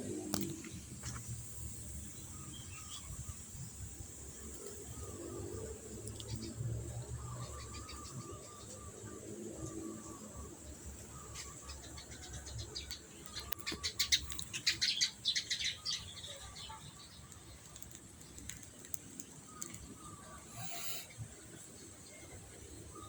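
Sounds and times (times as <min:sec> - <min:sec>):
sunbird chirping: 0:00.0 - 0:23.0.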